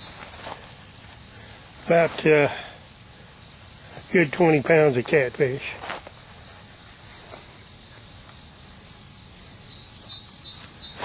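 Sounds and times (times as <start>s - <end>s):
chorus of summer insects: 0.0s - 11.0s.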